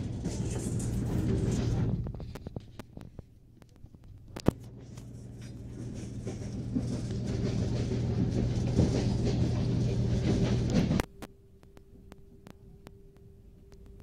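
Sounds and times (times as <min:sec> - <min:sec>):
train humming: 0:00.0 - 0:02.8, 0:04.2 - 0:14.0.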